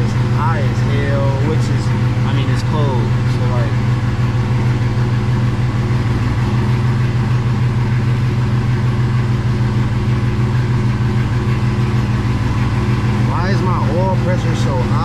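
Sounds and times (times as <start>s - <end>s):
car engine idling: 0.0s - 15.0s
radiator fans rushing: 0.0s - 15.0s.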